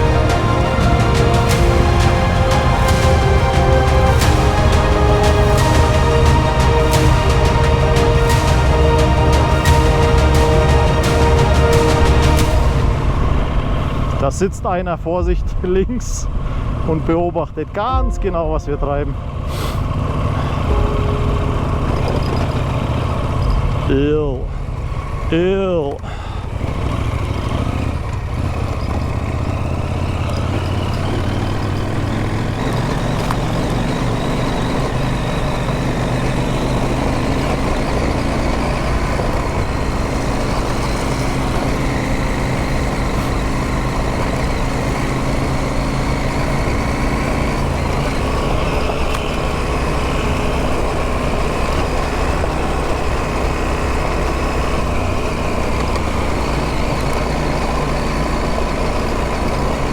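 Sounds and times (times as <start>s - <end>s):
motorcycle engine running: 0.0s - 17.2s, 17.8s - 59.9s.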